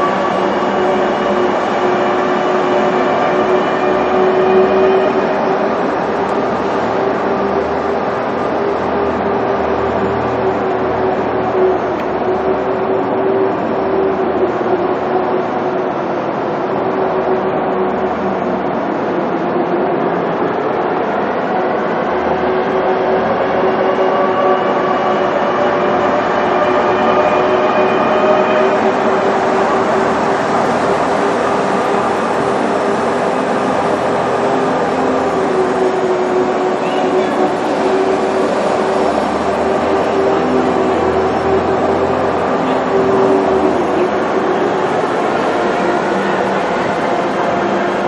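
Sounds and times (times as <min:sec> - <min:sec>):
loud machine noise: 0:00.0 - 0:48.0.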